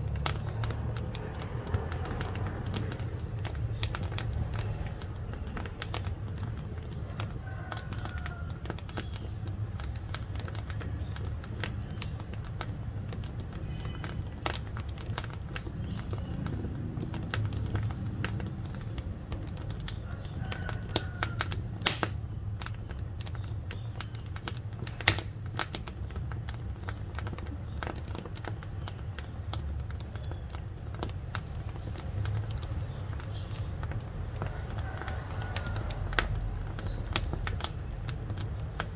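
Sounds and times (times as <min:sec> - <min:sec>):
firewood crackling: 0:00.0 - 0:38.9.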